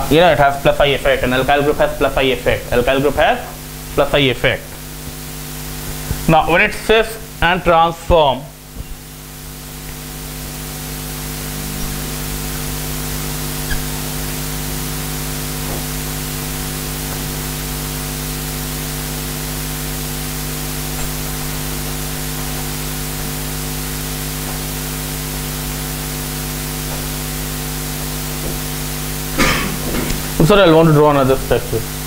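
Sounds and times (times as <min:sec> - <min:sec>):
low electrical hum: 0:00.0 - 0:32.0
steady hiss: 0:00.0 - 0:32.0.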